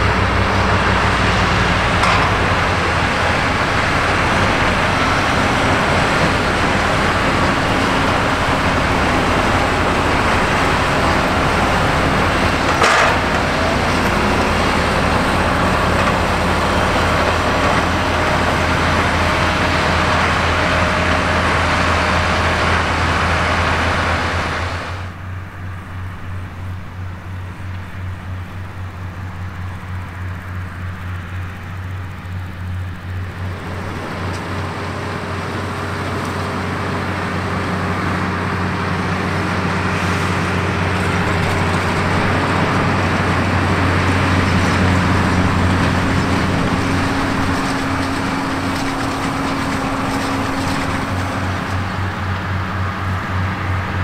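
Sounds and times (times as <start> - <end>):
haymaking machinery rushing: 0.0 - 25.1, 26.5 - 54.0
tractor diesel engines running: 0.0 - 54.0.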